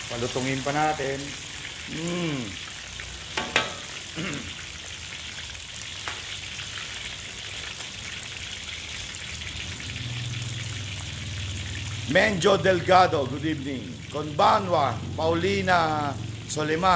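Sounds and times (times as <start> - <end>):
food deep-frying in oil: 0.0 - 16.9.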